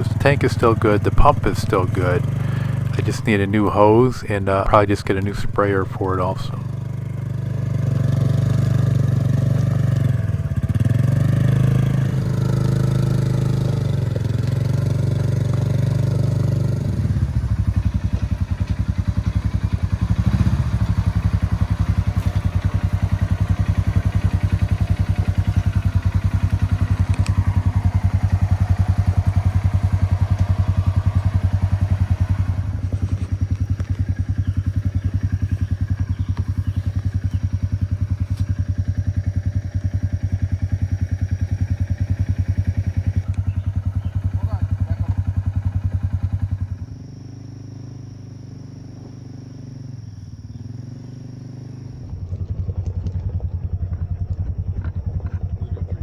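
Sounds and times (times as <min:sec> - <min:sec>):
utility vehicle engine running: 0:00.0 - 0:56.0.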